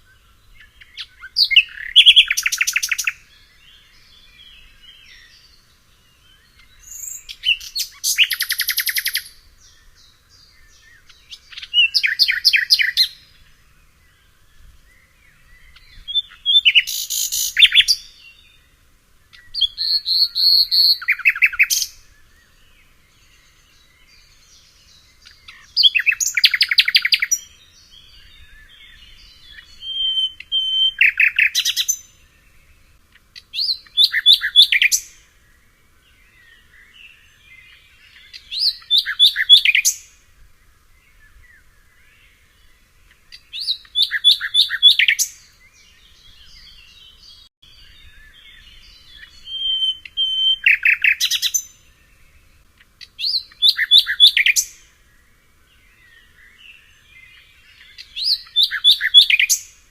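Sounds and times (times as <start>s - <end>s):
faint chirping: 0.0s - 59.9s
songbird singing: 0.0s - 59.9s.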